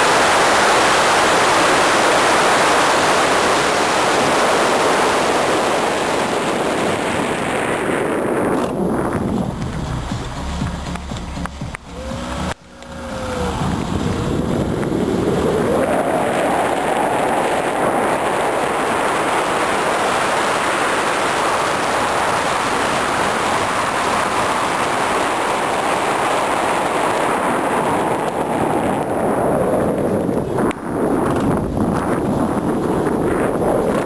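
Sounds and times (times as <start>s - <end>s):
wind rushing over microphone: 0.0s - 34.0s
car running noise: 3.8s - 34.0s.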